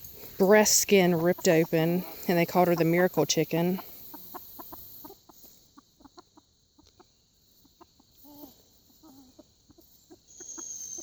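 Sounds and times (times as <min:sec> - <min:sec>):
chickens clucking: 0:00.3 - 0:11.0.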